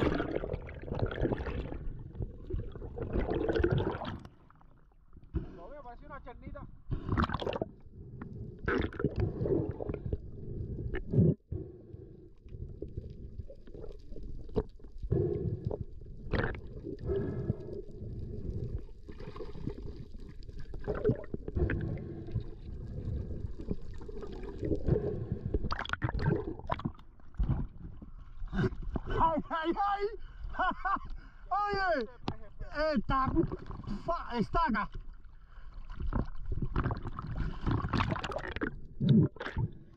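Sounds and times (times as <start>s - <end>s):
muffled water gurgling: 0.0s - 5.6s, 6.4s - 29.5s, 32.2s - 39.9s.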